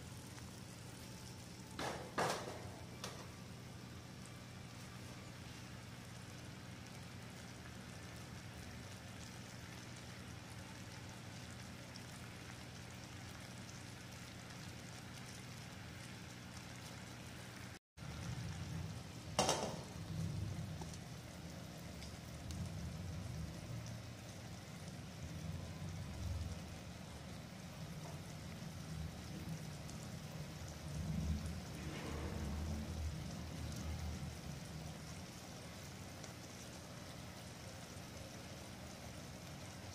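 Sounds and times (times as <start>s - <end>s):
syrup bubbling at a boil: 0.0s - 39.9s.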